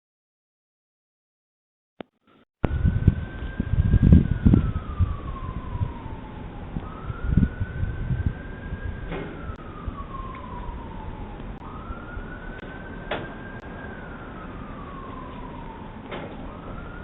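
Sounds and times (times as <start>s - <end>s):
siren wailing: 2.6s - 17.0s.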